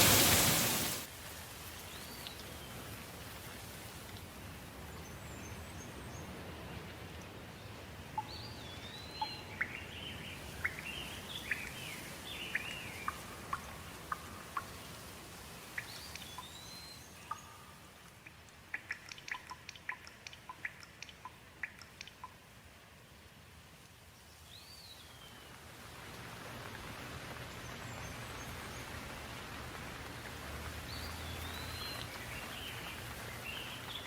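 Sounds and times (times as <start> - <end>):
water dripping: 0.0 - 5.1, 6.7 - 23.0, 23.7 - 34.0
steady rain: 0.0 - 34.0.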